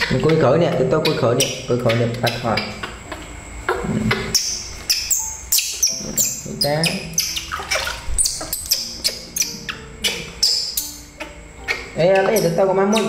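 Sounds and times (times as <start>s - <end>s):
baby monkey squeaking: 0.0s - 13.0s.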